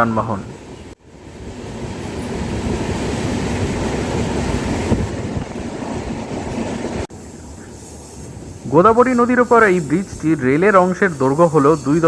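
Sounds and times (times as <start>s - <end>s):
train wheels rumbling on rails: 1.3s - 12.0s.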